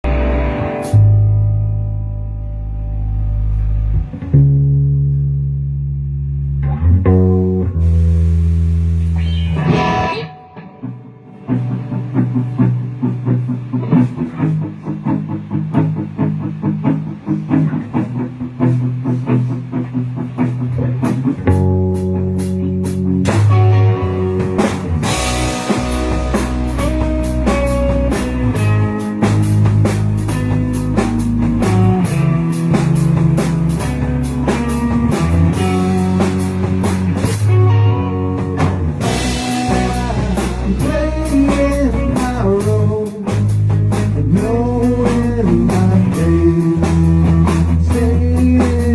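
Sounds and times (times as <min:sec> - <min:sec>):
bass guitar: 0:00.0 - 0:48.9
drum kit: 0:00.0 - 0:48.9
electric guitar: 0:00.0 - 0:48.9.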